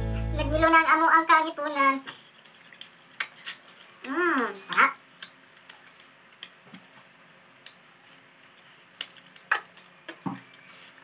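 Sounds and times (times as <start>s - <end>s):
clicks of peeling and biting fruit: 2.1s - 11.0s.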